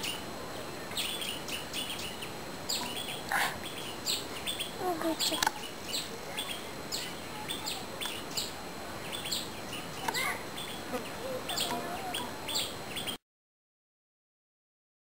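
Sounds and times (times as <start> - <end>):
small birds chirping: 0.0 - 13.2
steady background hiss: 0.0 - 13.2.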